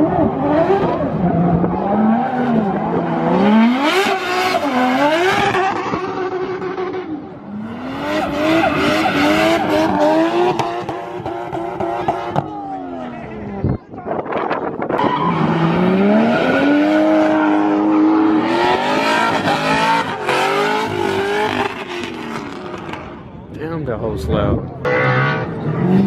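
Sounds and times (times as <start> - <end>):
car engine revving: 0.0 - 13.5, 14.7 - 23.4, 24.7 - 26.0.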